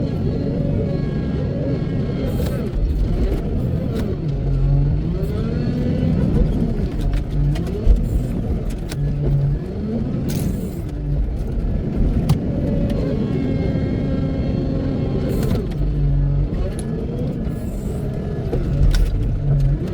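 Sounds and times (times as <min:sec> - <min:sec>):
diesel engine revving: 0:00.0 - 0:19.9.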